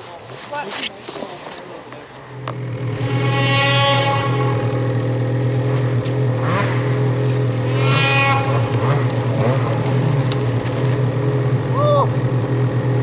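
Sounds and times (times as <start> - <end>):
snowmobile engine idling: 0.0 - 13.0
snowmobile engine revving: 1.8 - 13.0.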